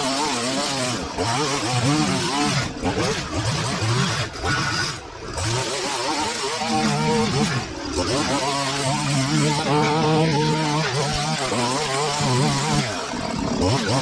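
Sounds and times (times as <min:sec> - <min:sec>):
string trimmer revving: 0:00.0 - 0:14.0.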